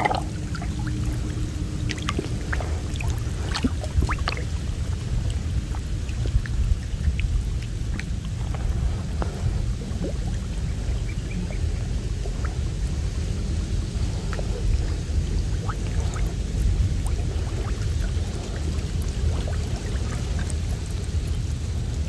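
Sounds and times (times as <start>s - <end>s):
low rumble: 0.0s - 22.0s
water dripping and splashing: 0.0s - 22.0s.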